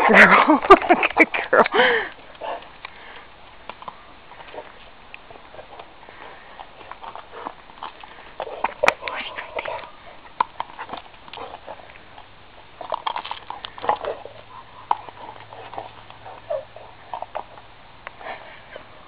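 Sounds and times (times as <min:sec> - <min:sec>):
dog paws clicking on asphalt: 0:00.5 - 0:18.7.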